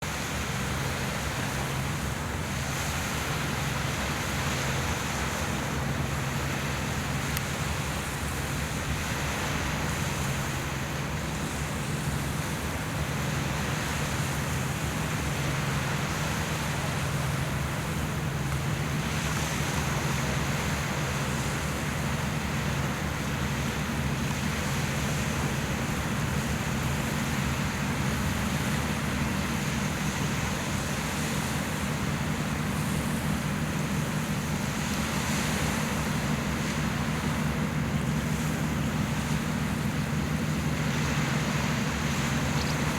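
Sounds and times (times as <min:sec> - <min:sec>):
boat engine hum: 0:00.0 - 0:42.9
sea water noise: 0:00.0 - 0:42.9
wind: 0:00.0 - 0:42.9.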